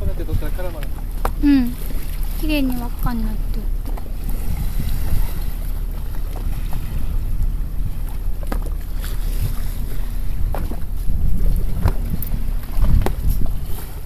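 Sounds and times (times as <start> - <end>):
boat clicks and knocks: 0.0 - 14.0
wind buffeting microphone: 0.0 - 14.0.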